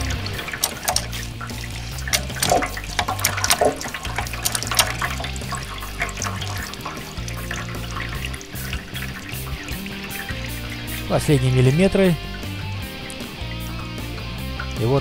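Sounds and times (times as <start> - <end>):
low background music: 0.0 - 15.0
water squelching from pulp: 0.0 - 15.0.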